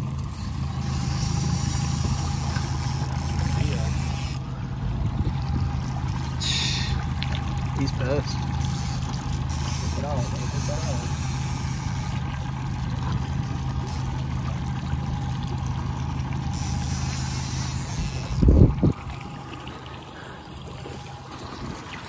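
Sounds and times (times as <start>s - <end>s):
choppy water: 0.0s - 22.0s
outboard motor running: 0.0s - 22.0s.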